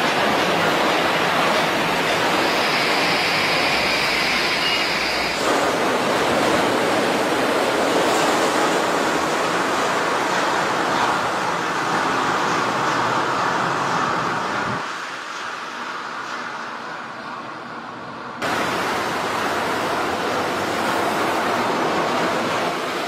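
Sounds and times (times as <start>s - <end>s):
monorail car high whine: 0.0s - 23.0s
monorail rushing noise: 0.0s - 23.0s.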